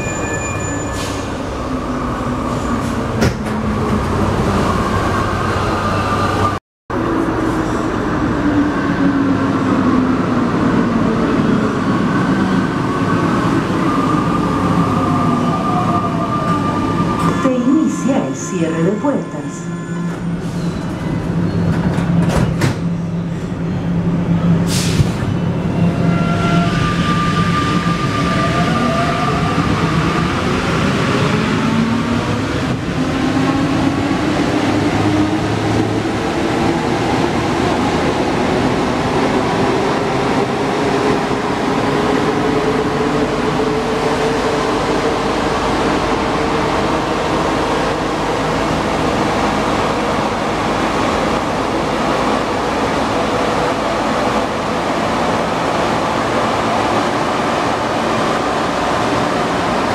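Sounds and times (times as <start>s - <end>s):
train running noise in tunnel: 0.0s - 59.9s.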